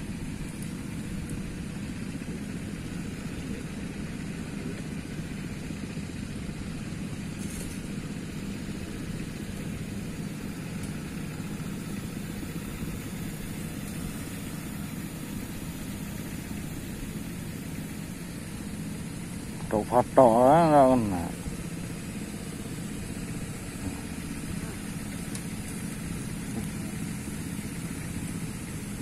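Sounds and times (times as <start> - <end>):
low motor hum: 0.0 - 29.0.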